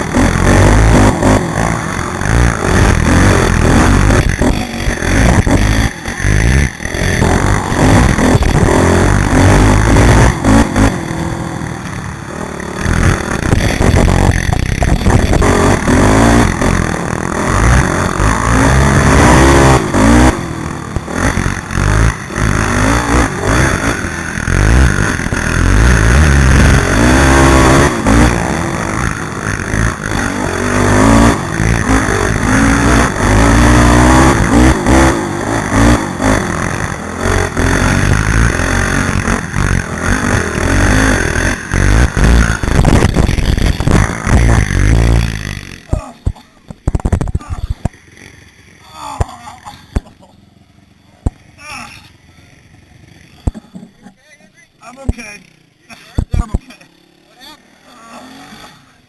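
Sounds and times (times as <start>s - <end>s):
quad engine revving: 0.0s - 54.1s, 54.8s - 59.0s.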